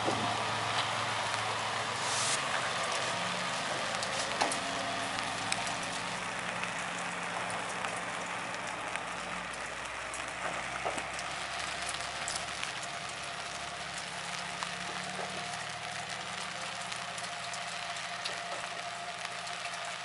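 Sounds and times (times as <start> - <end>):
diesel railcar pulling away: 0.0 - 20.0
steady rain: 0.0 - 20.0.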